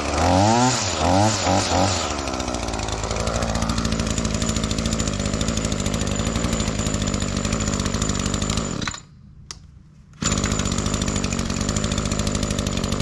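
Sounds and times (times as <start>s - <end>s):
string trimmer engine running: 0.0s - 9.1s, 10.1s - 13.0s.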